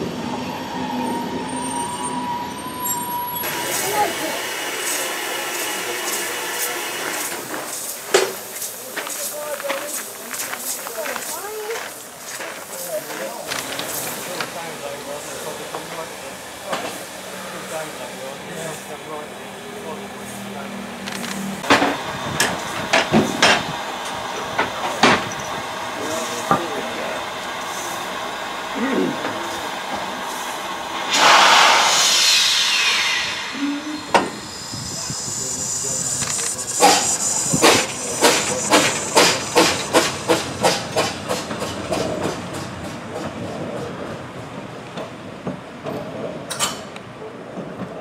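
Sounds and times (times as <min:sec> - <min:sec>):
steam locomotive hissing: 0:00.0 - 0:44.6.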